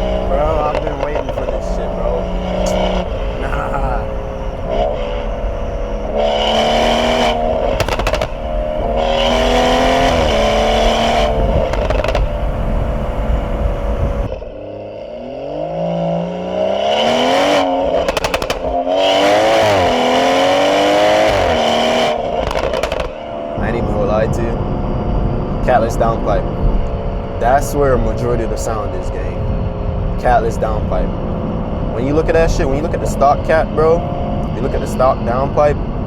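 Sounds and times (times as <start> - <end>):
car engine accelerating hard: 0.0 - 36.0
exhaust crackles: 0.0 - 36.0.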